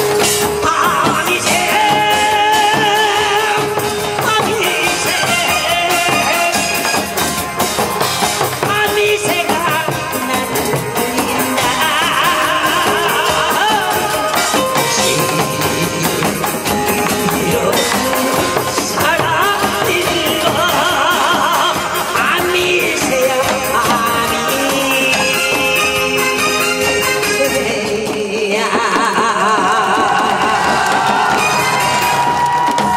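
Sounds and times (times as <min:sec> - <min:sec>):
man singing through a microphone: 0:00.0 - 0:30.9
drums and cymbal beat: 0:00.0 - 0:32.9.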